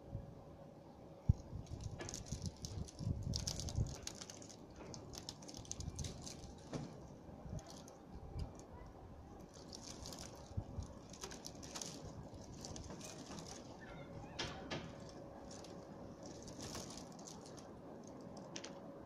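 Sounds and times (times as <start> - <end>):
plastic sheet clicking and rustling: 1.3 - 8.7, 9.4 - 18.9.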